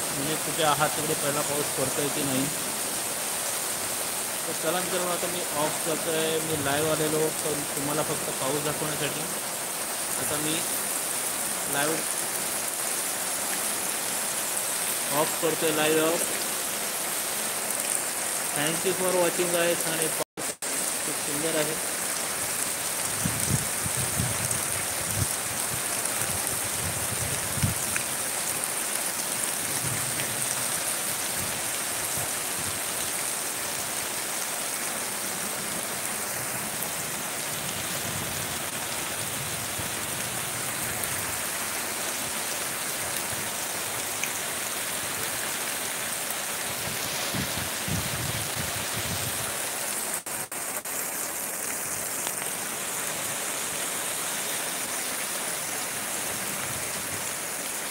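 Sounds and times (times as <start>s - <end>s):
heavy rain on ground and puddles: 0.0s - 57.9s.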